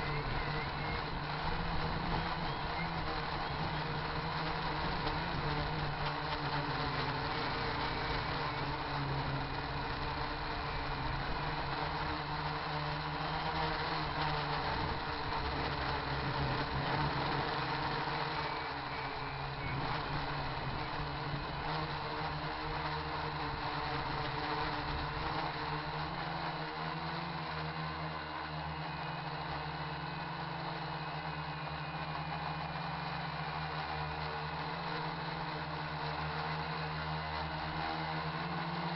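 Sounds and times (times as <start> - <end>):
drone motors humming: 0.0 - 38.9.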